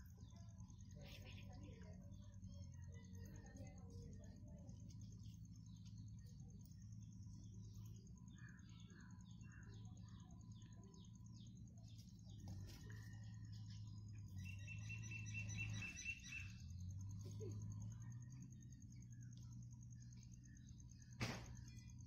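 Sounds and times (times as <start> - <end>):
low steady hum: 0.0 - 22.0
small birds chirping: 0.0 - 22.0.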